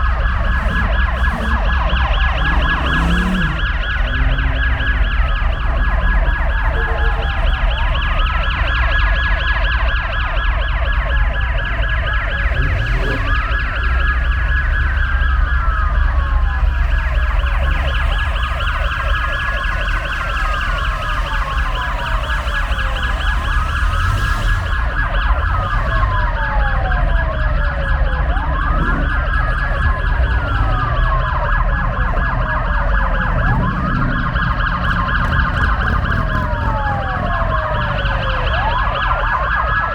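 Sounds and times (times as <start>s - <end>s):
low engine rumble: 0.0s - 39.9s
police sirens wailing: 0.0s - 39.9s.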